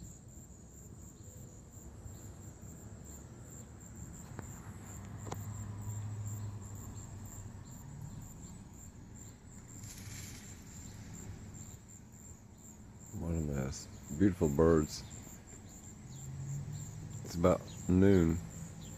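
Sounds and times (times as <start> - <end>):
distant traffic rumble: 0.0 - 18.9
insects trilling: 0.0 - 18.9.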